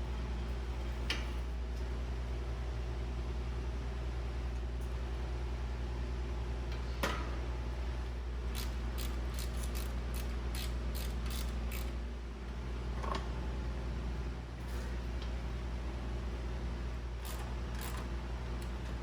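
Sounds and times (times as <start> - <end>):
low hum of shop: 0.0 - 19.0.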